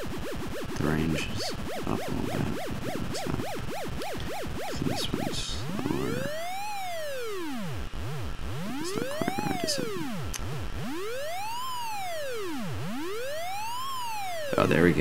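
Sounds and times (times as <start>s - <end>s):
synthesized siren moan: 0.0s - 15.0s.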